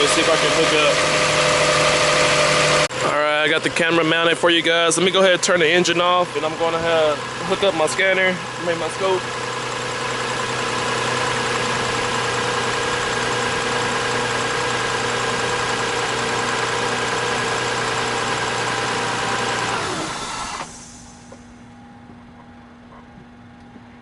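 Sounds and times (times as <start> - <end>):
car engine idling: 0.0 - 22.4
engine switched off running down: 0.0 - 22.4.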